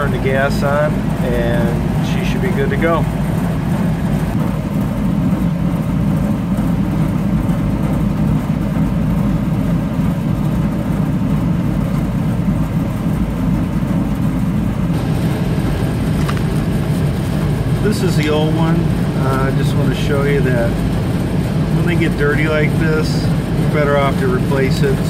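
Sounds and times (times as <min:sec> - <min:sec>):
low rumble of running machinery: 0:00.0 - 0:25.0.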